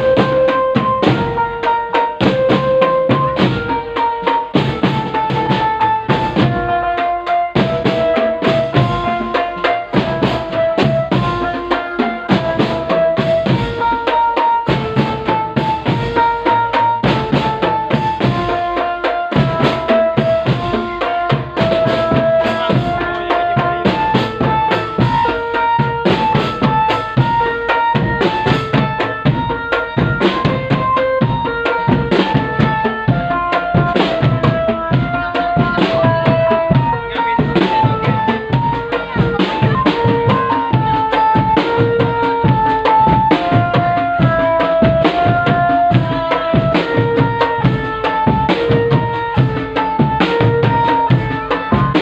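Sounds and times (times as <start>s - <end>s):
drum band music: 0.0s - 52.0s
melody of held notes: 0.0s - 52.0s.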